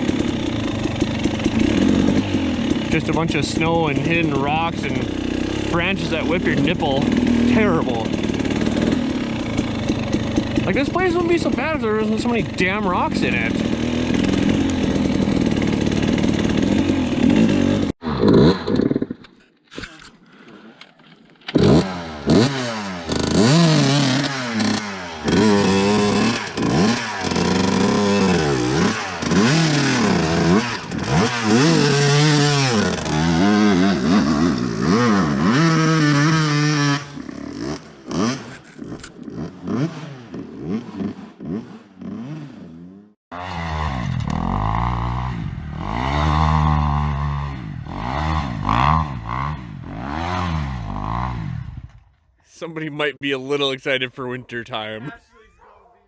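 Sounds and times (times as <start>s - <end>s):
dirt bike engine revving: 0.0s - 19.2s, 21.5s - 52.0s.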